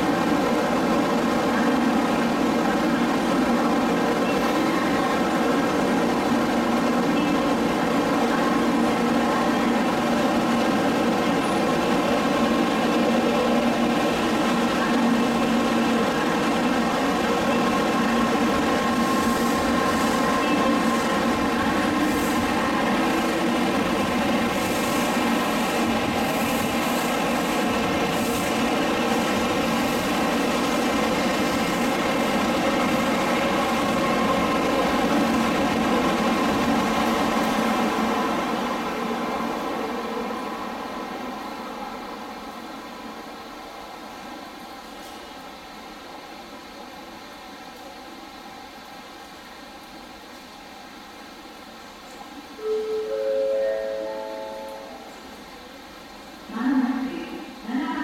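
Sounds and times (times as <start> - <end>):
train running past: 0.0 - 58.0.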